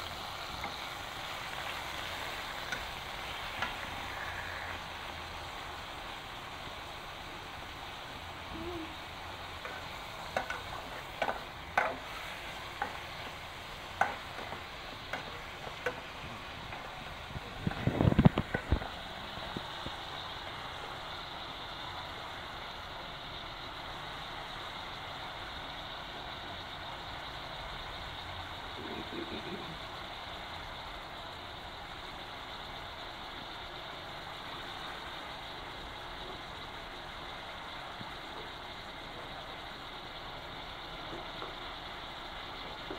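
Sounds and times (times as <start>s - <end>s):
fish frying in oil: 0.0s - 42.9s
gas stove burner hissing: 0.0s - 42.9s.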